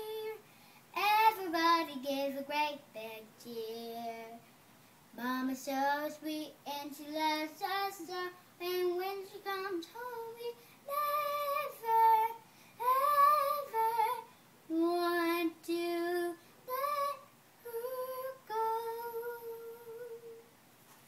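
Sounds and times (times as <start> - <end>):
girl singing: 0.0 - 4.5, 5.1 - 20.6.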